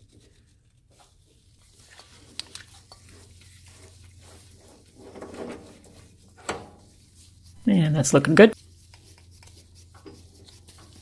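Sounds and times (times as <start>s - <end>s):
rubbing scrape: 1.0s - 11.0s.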